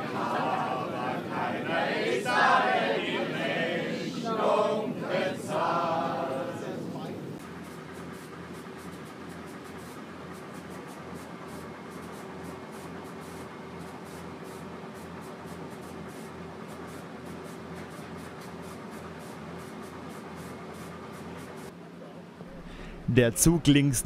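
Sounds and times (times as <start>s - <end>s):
railbus diesel engine drone: 0.0s - 24.0s.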